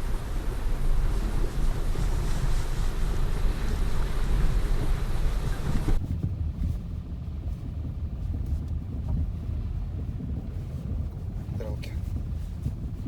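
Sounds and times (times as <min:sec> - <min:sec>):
wind and road noise hiss: 0:00.0 - 0:13.0.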